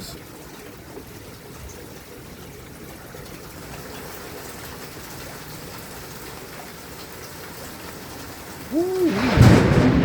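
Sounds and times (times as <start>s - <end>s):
rain falling steadily: 0.0s - 10.0s.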